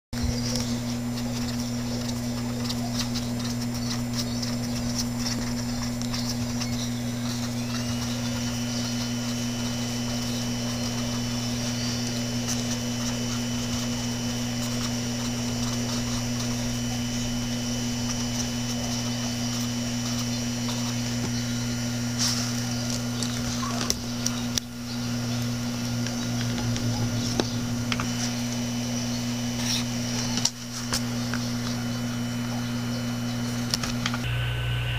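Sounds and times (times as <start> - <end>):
low electrical hum: 0.2 - 34.9.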